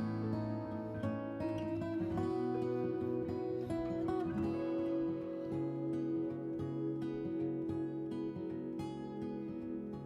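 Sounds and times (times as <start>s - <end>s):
acoustic guitar plucking: 0.0s - 10.0s.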